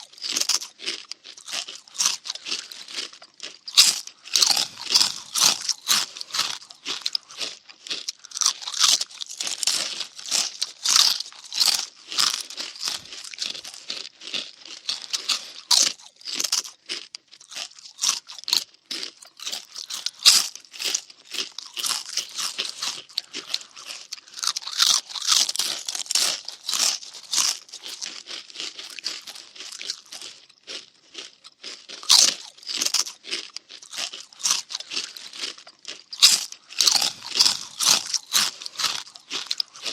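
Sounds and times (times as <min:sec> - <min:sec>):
cartoon crunchy munching: 0:00.0 - 0:39.9.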